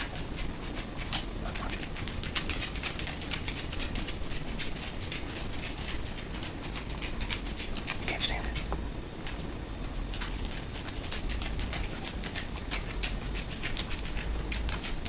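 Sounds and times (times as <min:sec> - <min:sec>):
rapid irregular clicking: 0:00.0 - 0:15.0.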